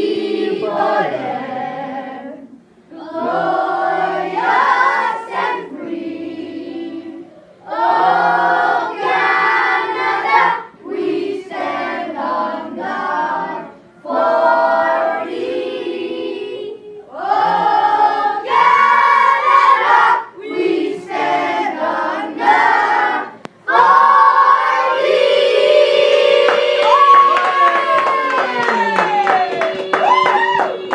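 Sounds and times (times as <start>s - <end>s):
children singing unaccompanied: 0.0s - 26.8s.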